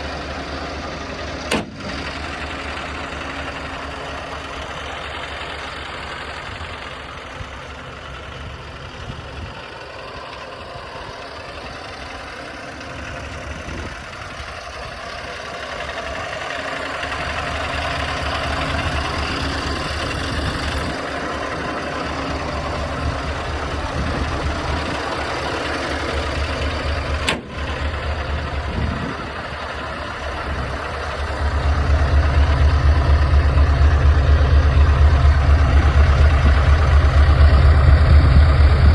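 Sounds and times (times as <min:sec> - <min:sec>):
diesel engine deep rumble: 0:00.0 - 0:38.9.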